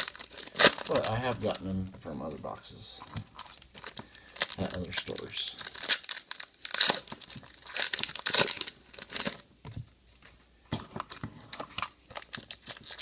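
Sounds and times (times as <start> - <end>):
card pack wrappers crinkling: 0.0 - 9.5, 10.1 - 13.0.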